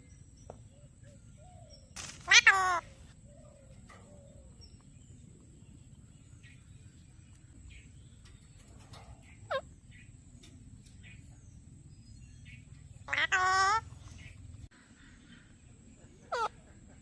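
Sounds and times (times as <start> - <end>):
birds calling faintly: 0.0 - 17.0
low background rumble: 2.6 - 17.0.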